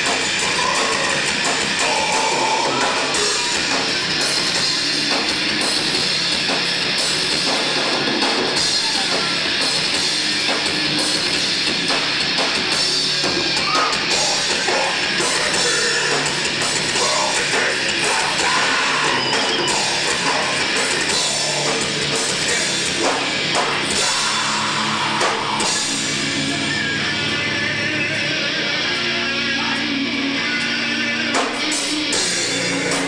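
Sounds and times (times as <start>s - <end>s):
distorted electric guitars: 0.0s - 33.0s
pounding drum kit: 0.0s - 33.0s.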